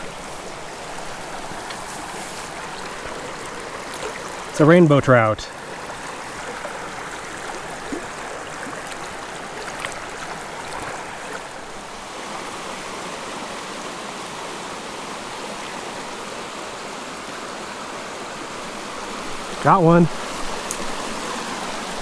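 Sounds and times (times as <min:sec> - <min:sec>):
creek running over rocks: 0:00.0 - 0:22.0.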